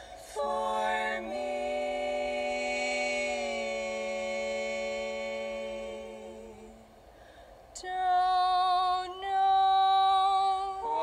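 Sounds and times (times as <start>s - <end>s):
women singing a cappella: 0.0s - 7.1s, 7.8s - 11.0s.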